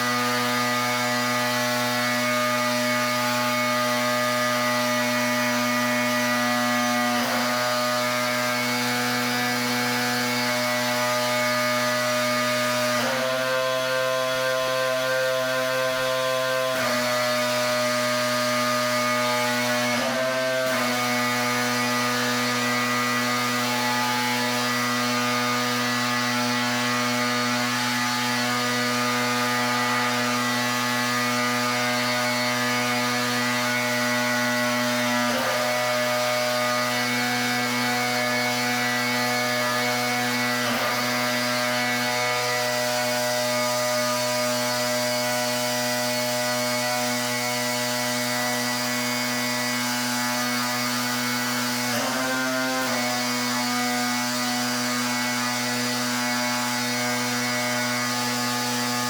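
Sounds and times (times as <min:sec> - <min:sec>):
high-pressure water jet hissing: 0:00.0 - 0:59.0
pressure washer machine hum: 0:00.0 - 0:59.0.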